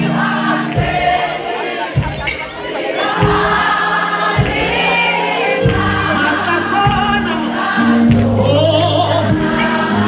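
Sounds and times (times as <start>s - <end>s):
drum kit: 0.0s - 10.0s
voices singing together: 0.0s - 10.0s.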